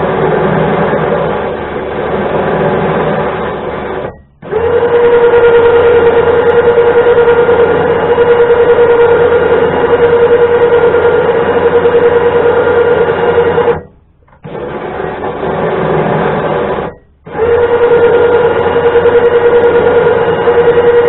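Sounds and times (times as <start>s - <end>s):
electric winch motor humming: 0.0s - 21.0s.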